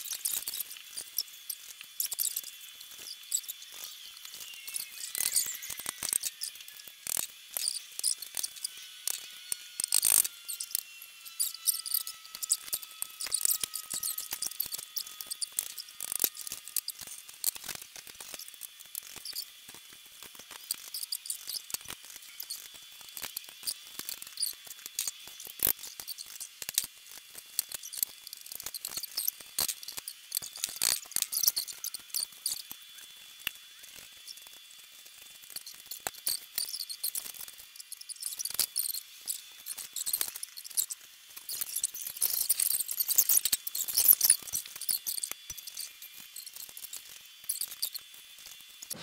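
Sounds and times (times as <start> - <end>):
small metal parts clicking and rattling: 0.0 - 49.0.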